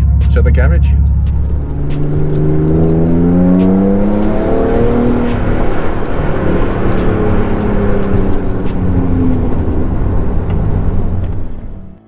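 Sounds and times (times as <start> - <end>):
car engine accelerating: 1.0 - 12.0.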